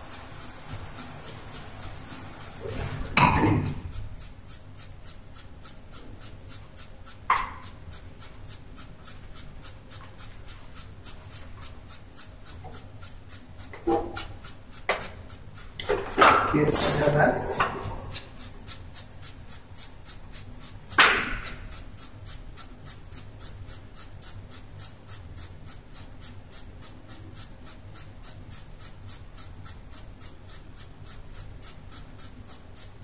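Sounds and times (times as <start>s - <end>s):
brush scratching fingertips: 0.0s - 33.0s.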